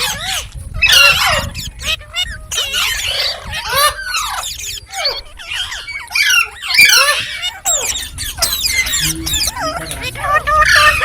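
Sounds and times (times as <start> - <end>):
parrot chirping and squawking: 0.0 - 11.0.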